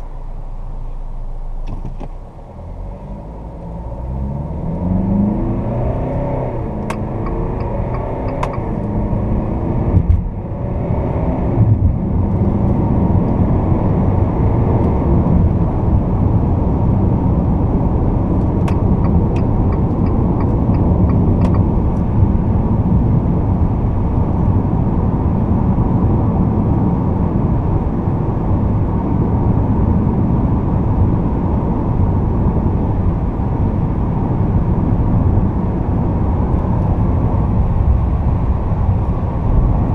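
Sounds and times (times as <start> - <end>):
diesel engine drone in cab: 0.0 - 39.9
road and wind noise: 0.0 - 39.9.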